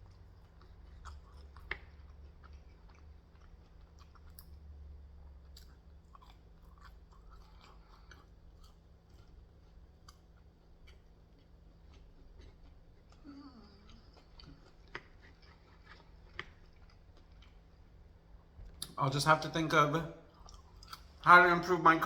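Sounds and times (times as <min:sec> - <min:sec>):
person chewing food: 0:00.0 - 0:19.0, 0:20.2 - 0:21.6.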